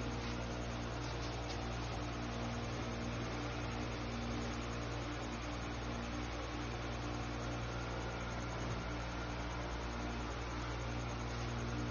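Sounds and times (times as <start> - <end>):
steady hum and hiss: 0.0 - 11.9.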